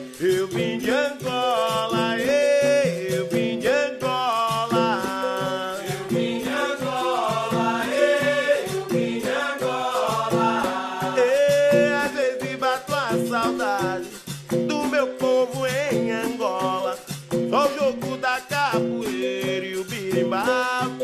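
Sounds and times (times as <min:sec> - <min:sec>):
percussion beat: 0:00.0 - 0:21.0
person singing: 0:00.0 - 0:21.0.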